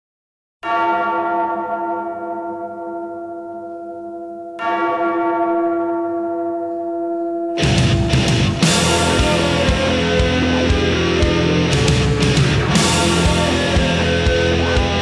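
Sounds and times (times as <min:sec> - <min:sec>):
deep bell tolling: 0:00.6 - 0:15.0.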